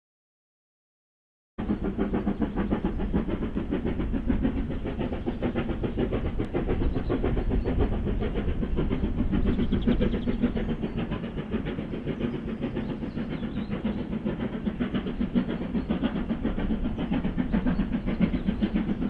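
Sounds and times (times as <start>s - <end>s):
steam locomotive chuffing: 1.6s - 19.0s.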